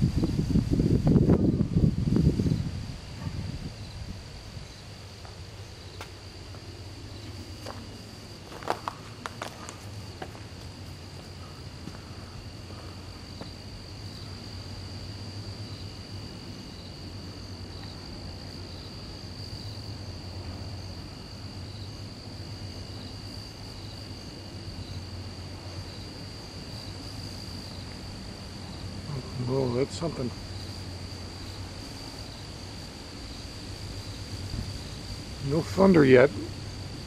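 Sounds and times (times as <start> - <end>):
crickets trilling: 0.0 - 37.0
low steady hum: 0.0 - 37.0.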